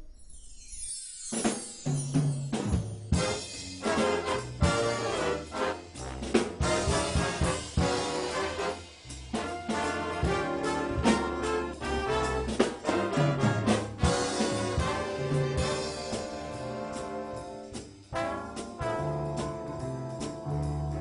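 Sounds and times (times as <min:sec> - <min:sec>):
drum kit: 0:01.3 - 0:21.0
brass instruments playing: 0:03.1 - 0:21.0.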